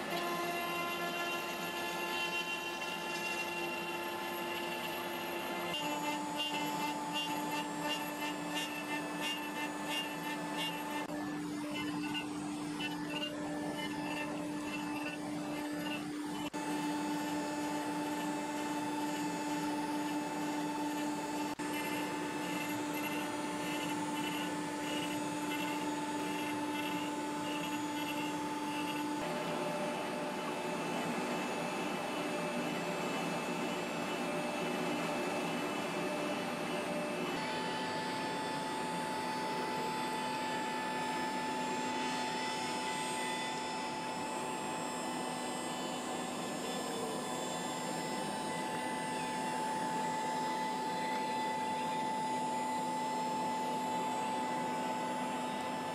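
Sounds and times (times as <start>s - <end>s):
cnc router spindle whine: 0.0s - 55.9s.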